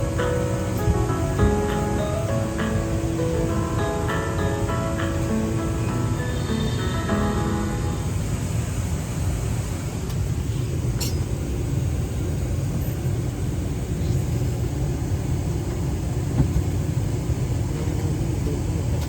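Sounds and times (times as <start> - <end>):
airliner cabin low rumble: 0.0 - 19.0.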